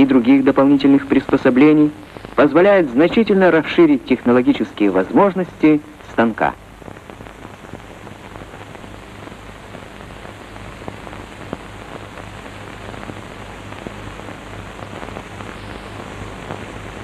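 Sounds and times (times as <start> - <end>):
crackles and pops: 0.0 - 17.0
film soundtrack hiss: 0.0 - 17.0.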